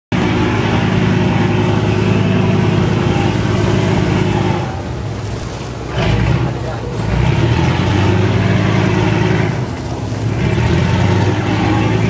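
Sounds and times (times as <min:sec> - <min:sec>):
ferry engine humming: 0:00.1 - 0:12.0.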